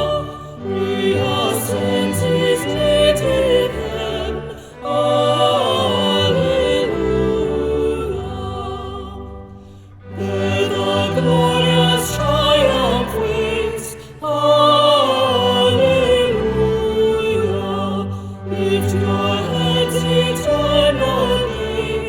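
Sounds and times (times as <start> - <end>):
classical hymn singing with vibrato: 0.0 - 22.0.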